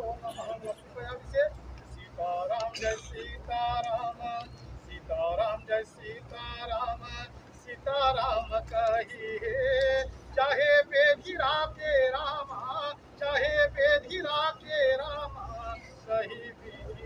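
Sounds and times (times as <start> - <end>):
man singing a devotional chant: 0.0 - 17.0.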